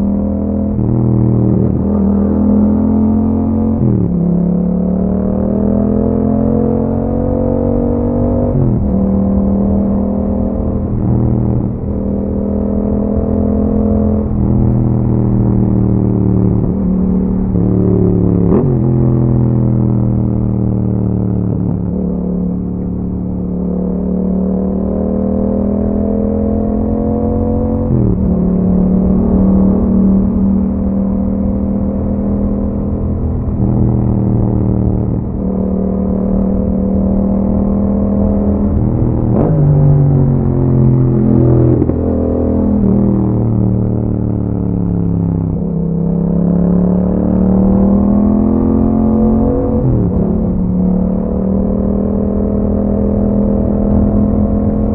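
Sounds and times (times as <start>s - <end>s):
motorcycle engine shifting gears: 0.0s - 54.9s.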